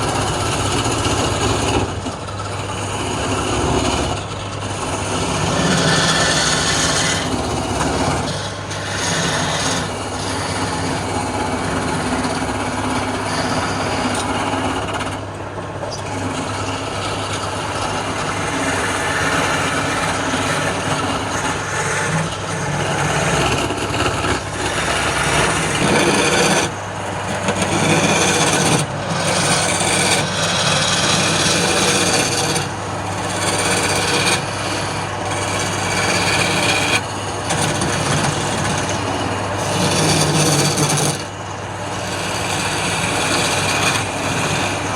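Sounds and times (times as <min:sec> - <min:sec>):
lathe motor hum: 0:00.0 - 0:44.9
tool rasping on spinning wood: 0:00.0 - 0:44.9.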